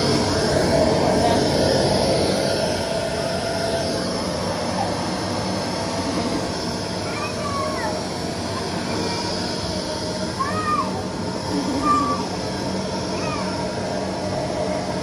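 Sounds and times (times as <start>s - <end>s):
air blower rushing: 0.0s - 15.0s.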